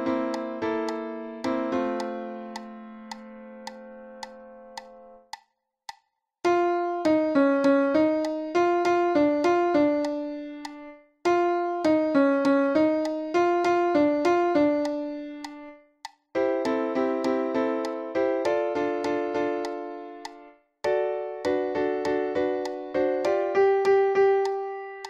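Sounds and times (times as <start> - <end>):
piano keyboard playing: 0.0 - 5.2, 6.4 - 15.8, 16.4 - 25.0
metronome-like clicks: 0.1 - 25.0.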